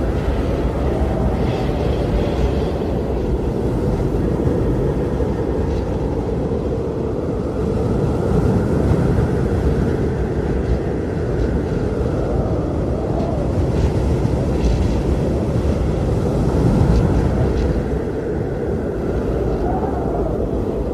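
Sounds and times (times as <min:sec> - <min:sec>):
howling blizzard wind: 0:00.0 - 0:20.9.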